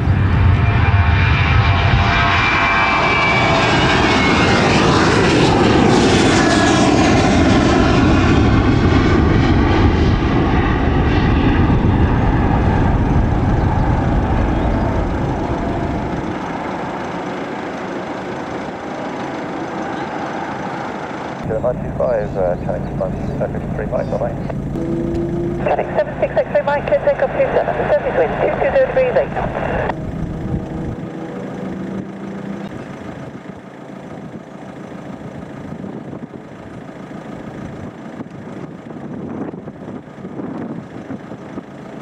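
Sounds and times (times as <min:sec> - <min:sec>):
airliner engines passing close: 0:00.0 - 0:42.0.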